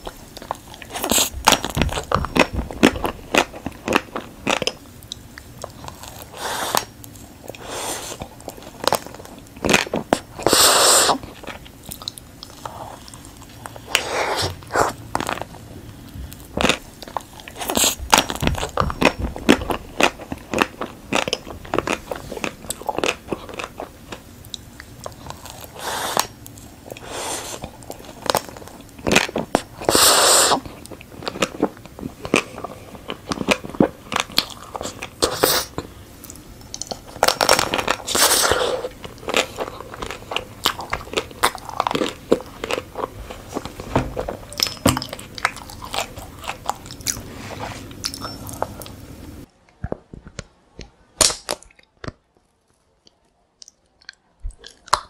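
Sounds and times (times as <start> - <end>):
chewing: 0.0 - 49.5, 53.0 - 55.0.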